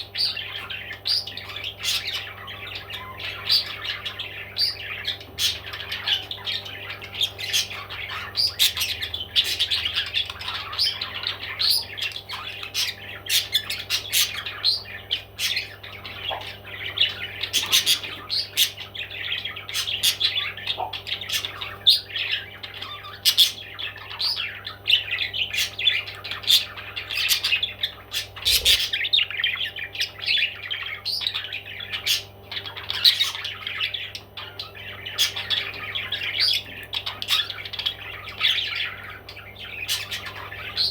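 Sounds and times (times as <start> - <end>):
parrots squawking: 0.0 - 40.9.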